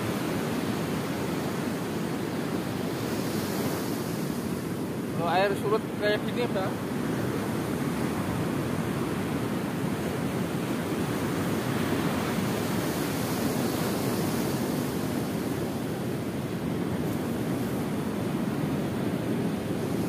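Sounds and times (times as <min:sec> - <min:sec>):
ocean surf on beach: 0:00.0 - 0:20.0.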